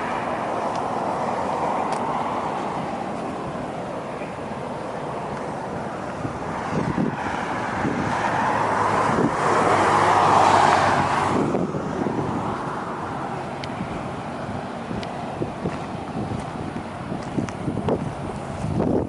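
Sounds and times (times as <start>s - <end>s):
outdoor background noise: 0.0s - 19.0s
road vehicle passing: 0.0s - 19.0s.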